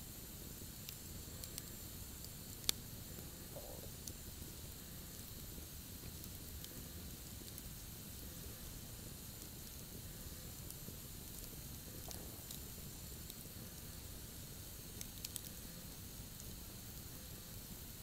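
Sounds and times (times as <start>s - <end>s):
faint fire hiss: 0.0s - 18.0s
campfire crackling: 0.1s - 18.0s
fire popping: 0.1s - 18.0s.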